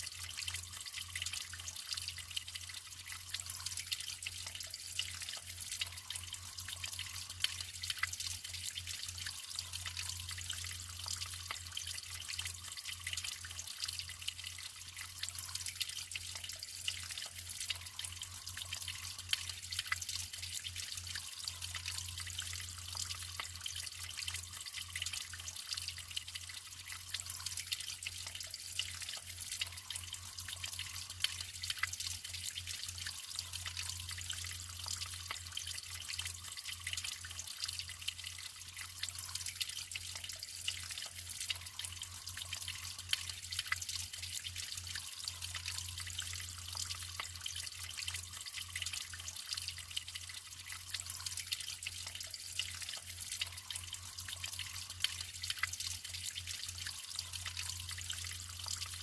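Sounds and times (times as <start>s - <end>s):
running water trickling and splashing: 0.0s - 59.0s.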